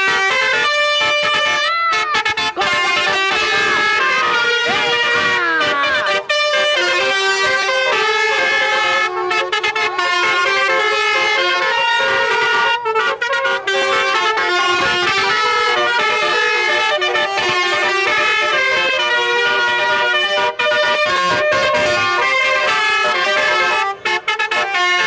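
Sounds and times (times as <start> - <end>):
multi-tone horn playing a tune: 0.0 - 25.0.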